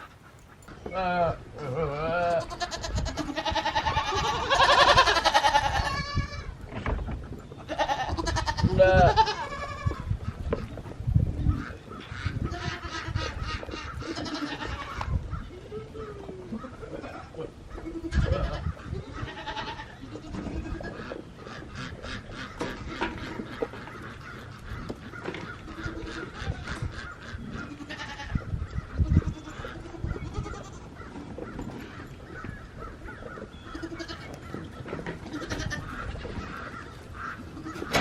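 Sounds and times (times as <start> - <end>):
goats bleating: 0.9 - 6.6, 7.6 - 10.1, 12.2 - 38.0.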